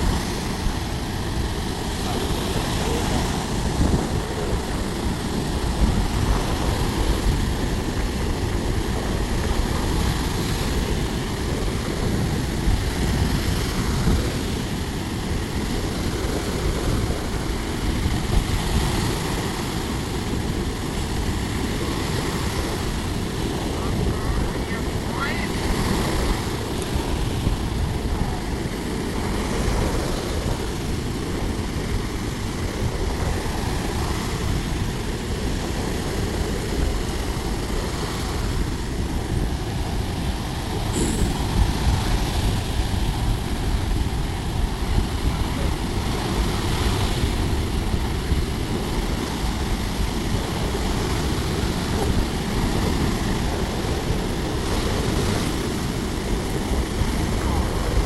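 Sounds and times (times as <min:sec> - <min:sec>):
sea waves washing onto beach: 0:00.0 - 0:58.0.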